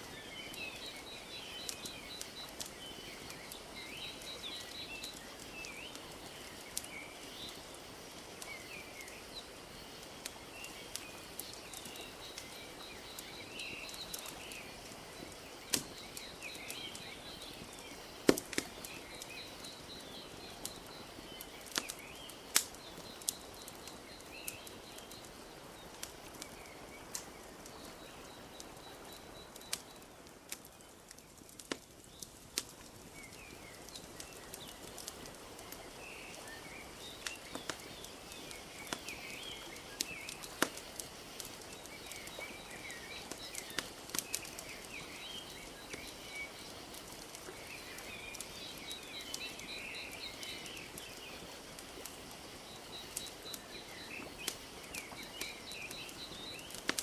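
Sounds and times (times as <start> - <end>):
small birds chirping: 0.0 - 57.0
wood fire crackling: 0.0 - 57.0.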